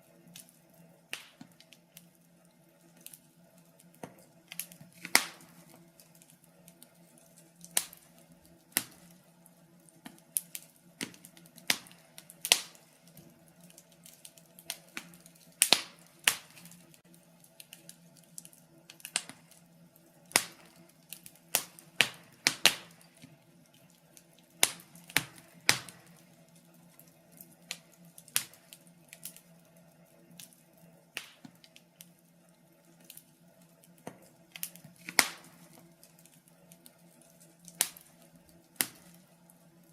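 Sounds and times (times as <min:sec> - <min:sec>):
logs crackling in a fireplace: 0:00.0 - 0:39.9.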